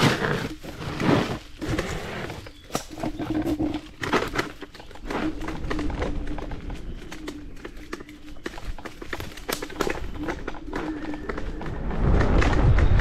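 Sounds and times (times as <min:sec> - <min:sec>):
electric scooter clattering: 0:00.0 - 0:13.0.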